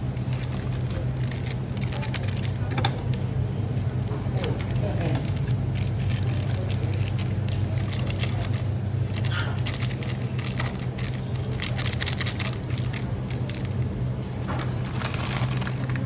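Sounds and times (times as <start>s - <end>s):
items being handled: 0.0s - 16.0s
shop machinery humming: 0.0s - 16.0s.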